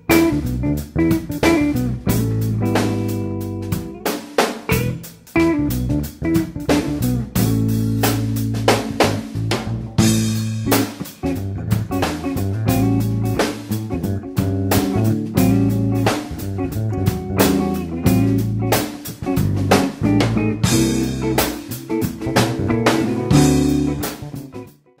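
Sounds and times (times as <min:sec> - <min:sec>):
band playing steady beat: 0:00.0 - 0:24.8.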